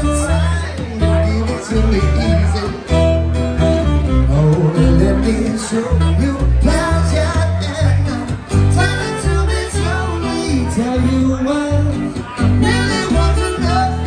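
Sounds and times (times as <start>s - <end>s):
man singing: 0.0s - 14.0s
strummed acoustic guitar: 0.0s - 14.0s
upright bass plucking: 0.0s - 14.0s.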